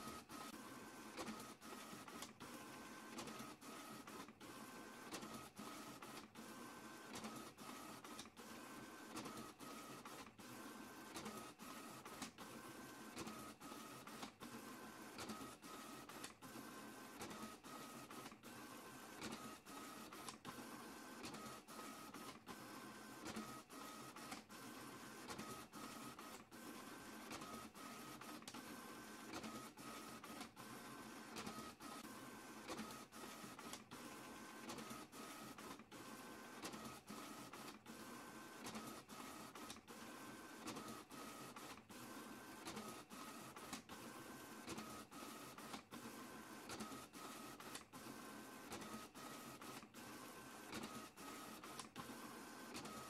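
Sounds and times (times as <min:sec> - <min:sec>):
printer whirring: 0:00.0 - 0:53.0.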